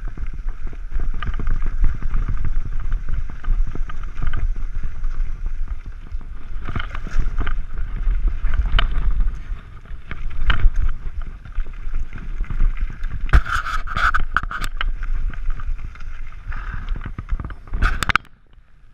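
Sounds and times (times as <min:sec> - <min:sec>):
wind buffeting microphone: 0:00.0 - 0:18.2
bike rattling over bumps: 0:00.0 - 0:18.3.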